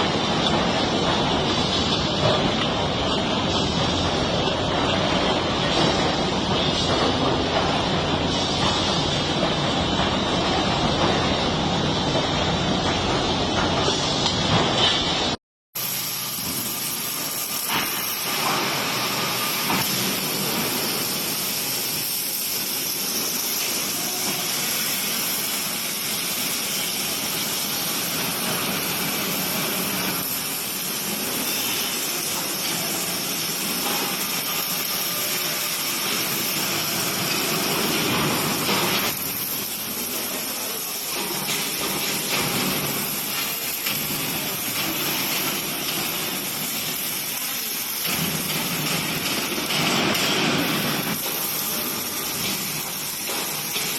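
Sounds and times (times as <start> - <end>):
welding machine hissing: 0.0 - 53.9.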